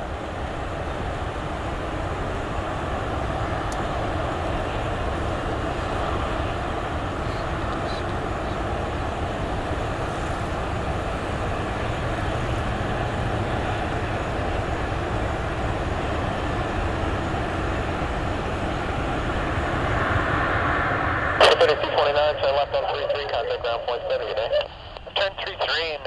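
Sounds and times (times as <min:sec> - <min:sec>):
jet engine noise: 0:00.0 - 0:26.0.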